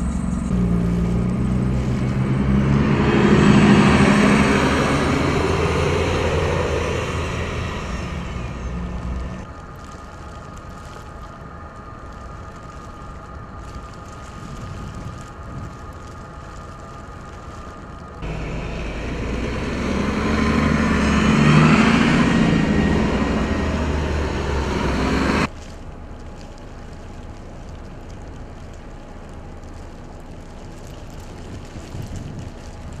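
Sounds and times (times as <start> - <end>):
bus driving past on snow: 0.0 - 33.0
low street hum: 0.0 - 33.0.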